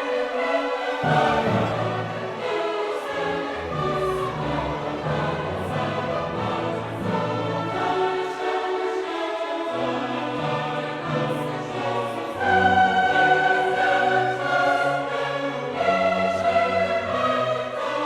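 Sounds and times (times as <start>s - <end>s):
choir singing long held notes: 0.0s - 18.0s.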